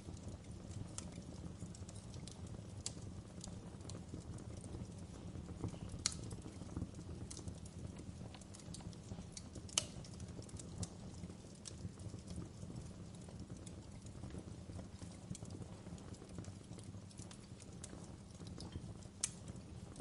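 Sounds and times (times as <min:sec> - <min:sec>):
wood fire crackling: 0:00.0 - 0:20.0
burning logs snapping: 0:00.1 - 0:20.0.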